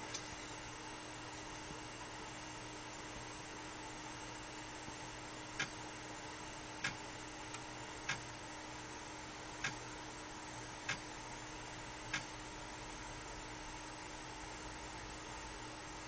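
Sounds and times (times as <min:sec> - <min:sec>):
electrical hiss and hum: 0:00.0 - 0:16.0.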